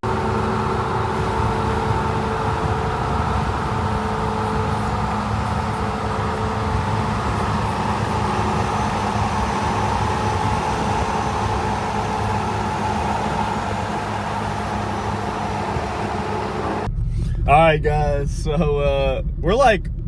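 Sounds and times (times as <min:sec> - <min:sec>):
truck engine and tyre noise: 0:00.0 - 0:20.0.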